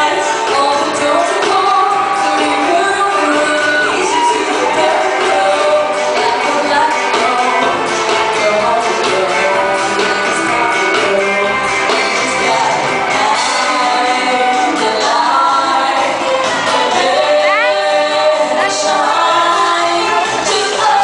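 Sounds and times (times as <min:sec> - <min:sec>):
drums: 0:00.0 - 0:21.0
person singing: 0:00.0 - 0:21.0.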